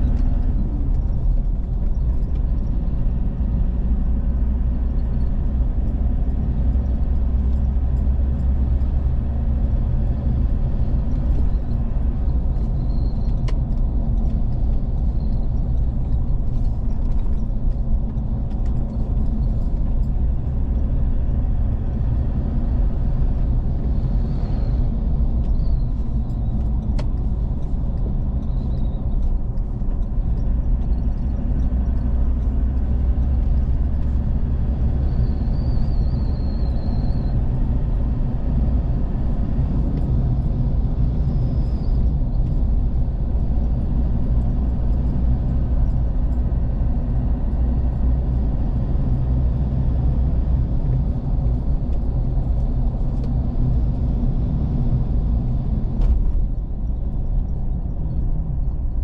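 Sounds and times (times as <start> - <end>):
vehicle driving on road: 0.0 - 59.0.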